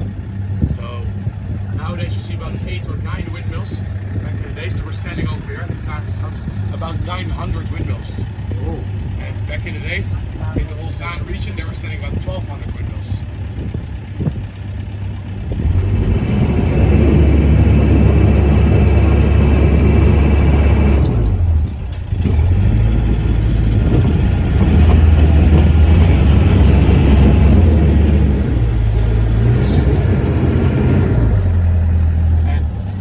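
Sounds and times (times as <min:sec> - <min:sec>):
boat low rumble: 0:00.0 - 0:33.0.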